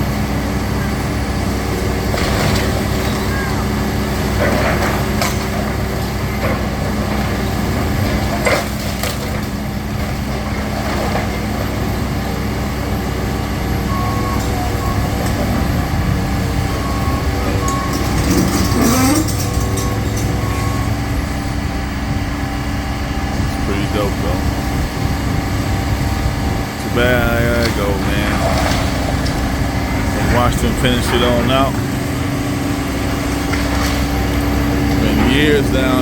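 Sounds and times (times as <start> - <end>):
heavy demolition machinery running: 0.0 - 36.0.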